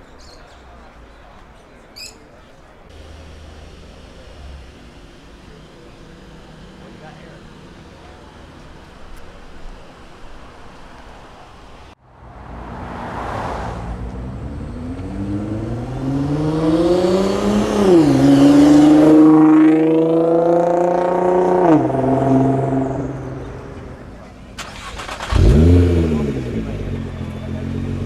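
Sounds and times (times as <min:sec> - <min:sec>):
car accelerating hard: 0:02.9 - 0:28.0.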